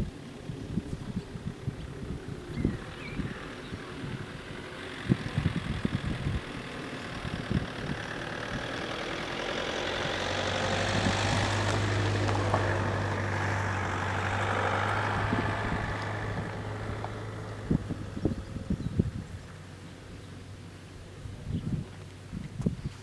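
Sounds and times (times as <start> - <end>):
wind buffeting microphone: 0.0 - 20.2, 21.0 - 23.0
engine humming: 0.0 - 23.0.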